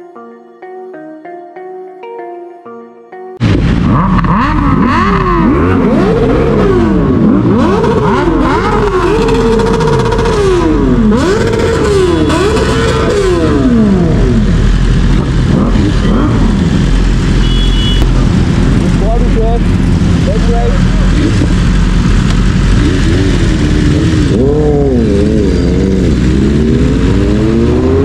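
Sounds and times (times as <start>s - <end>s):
motorcycle engines revving: 3.4s - 28.0s.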